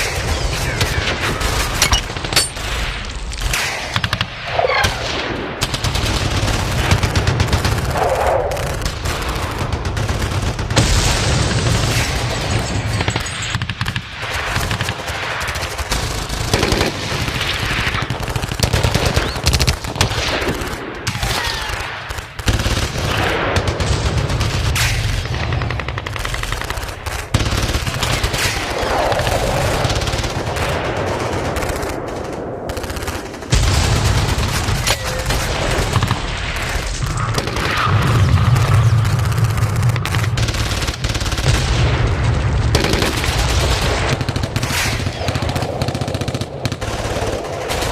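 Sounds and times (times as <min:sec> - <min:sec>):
machine-gun and rifle fire: 0:00.0 - 0:47.9.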